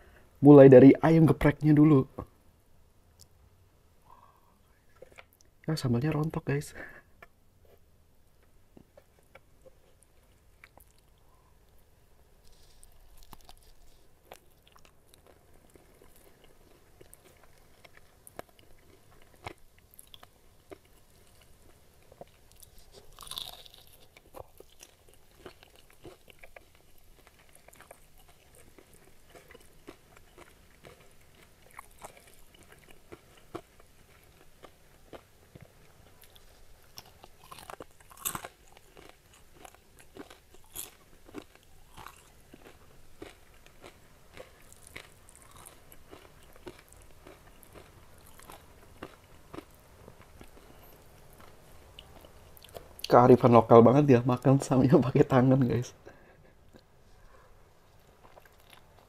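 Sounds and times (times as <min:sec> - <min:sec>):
crunchy chewing of fried chicken: 0:08.7 - 0:53.1, 0:56.1 - 0:59.0.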